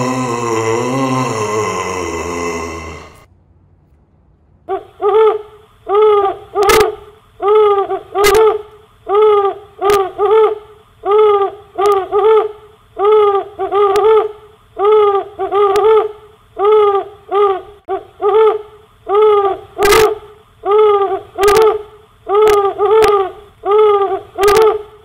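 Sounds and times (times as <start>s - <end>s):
owl hooting: 4.7s - 25.0s.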